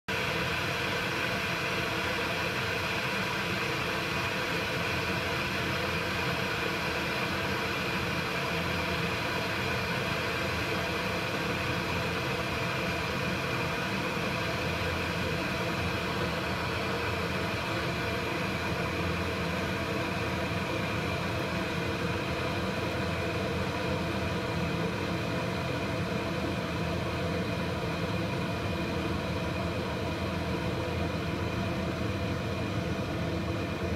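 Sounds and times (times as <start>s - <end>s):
kettle rushing with faint whine: 0.1s - 33.9s.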